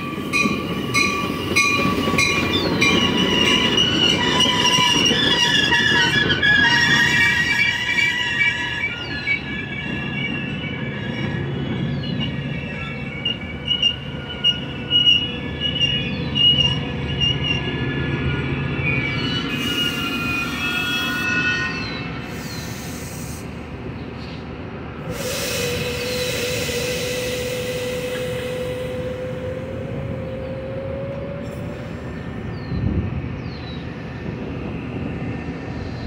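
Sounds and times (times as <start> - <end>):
train wheels squealing: 0.0 - 23.6, 25.1 - 36.0.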